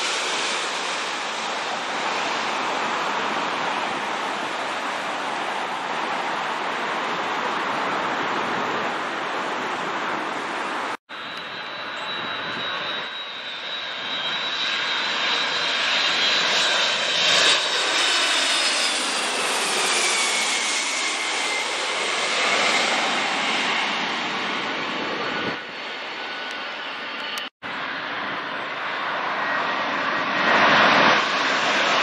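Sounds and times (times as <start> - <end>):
high jet engine whine: 0.0 - 32.0
jet rush overhead: 0.0 - 32.0.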